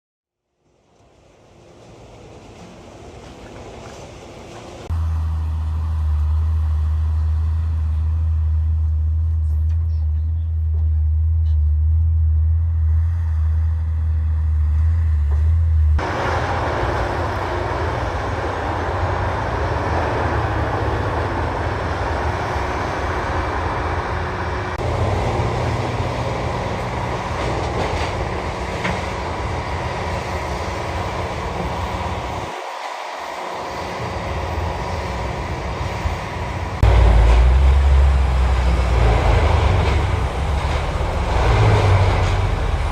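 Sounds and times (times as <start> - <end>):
diesel machinery engine rumble: 1.2 - 42.9.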